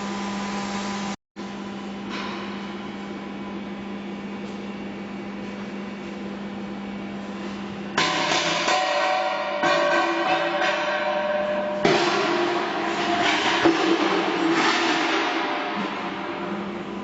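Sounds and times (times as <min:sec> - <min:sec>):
machinery whirring hum: 0:00.0 - 0:17.0.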